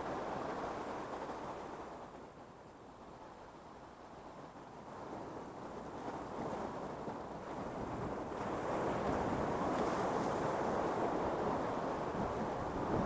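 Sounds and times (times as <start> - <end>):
ocean waves on beach: 0.0 - 13.0.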